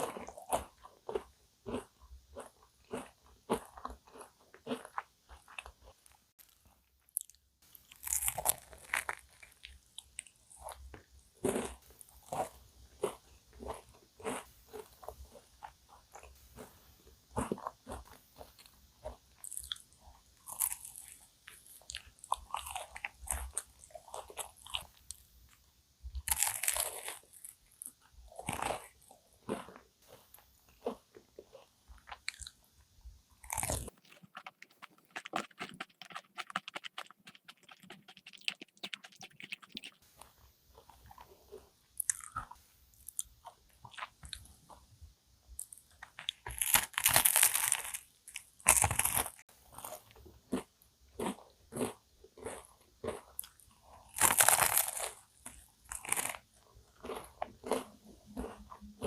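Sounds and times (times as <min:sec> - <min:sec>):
crunchy pastry chewing: 0:00.0 - 0:32.8, 0:33.4 - 0:44.9, 0:45.6 - 0:59.0.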